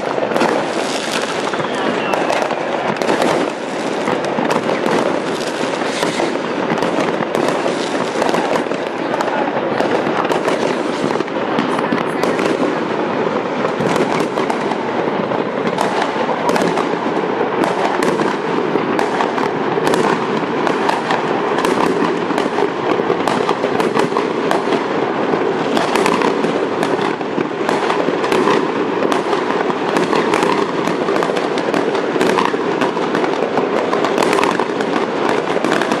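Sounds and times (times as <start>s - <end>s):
fireworks bangs and crackles: 0.0s - 36.0s
sharp firework cracks: 0.0s - 36.0s.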